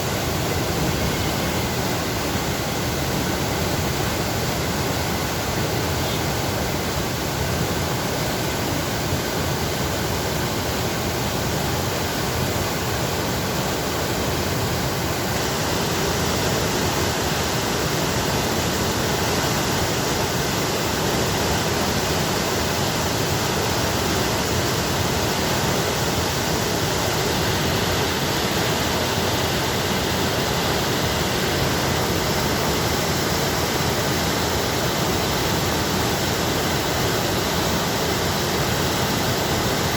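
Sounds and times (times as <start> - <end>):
water rushing through sluice gate: 0.0 - 39.9.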